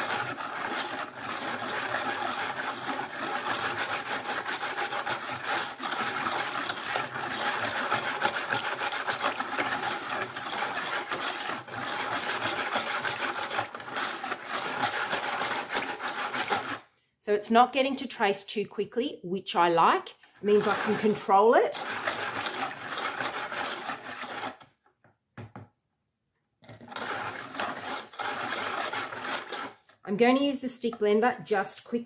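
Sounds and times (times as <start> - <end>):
whisk scraping and swishing in bucket: 0.0 - 17.0, 19.5 - 24.8, 26.6 - 32.0.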